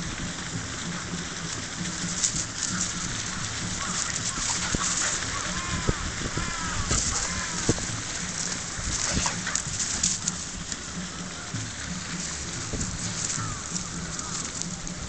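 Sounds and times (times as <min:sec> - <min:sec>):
dry leaves crackling and rustling: 0:00.0 - 0:15.0
wind buffeting microphone: 0:00.0 - 0:15.0.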